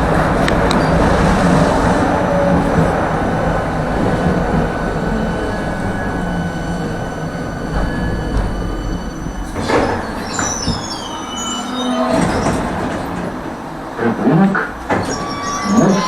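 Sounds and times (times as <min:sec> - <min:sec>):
tram rumbling along track: 0:00.0 - 0:16.0
tram wheels squealing: 0:00.0 - 0:16.0.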